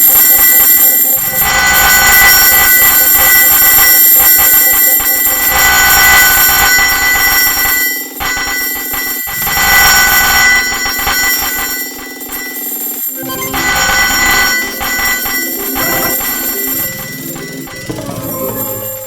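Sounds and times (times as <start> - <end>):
clatter of metal medals: 0.0 - 19.0
electronic jackpot jingles: 0.0 - 19.0.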